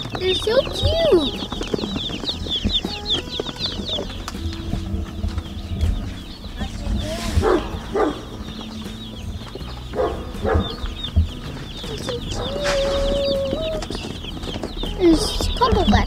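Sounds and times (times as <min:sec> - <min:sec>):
chicks peeping: 0:00.0 - 0:16.0
hens clucking: 0:00.0 - 0:16.0
drawn-out hen call: 0:00.1 - 0:15.7.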